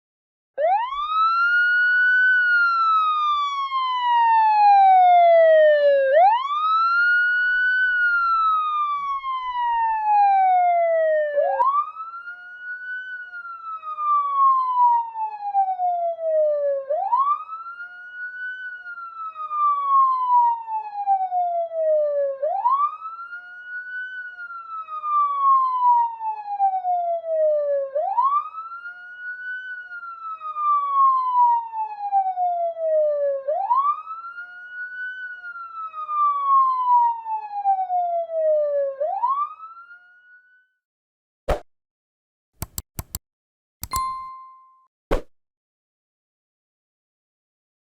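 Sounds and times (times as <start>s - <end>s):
police siren wailing: 0.6s - 40.4s.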